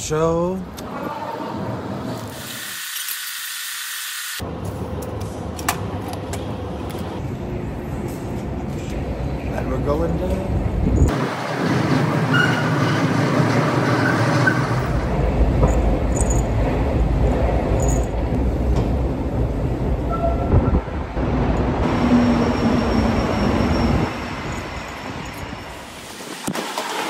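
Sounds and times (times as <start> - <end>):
subway train rumbling: 0.0 - 2.5, 4.4 - 27.0.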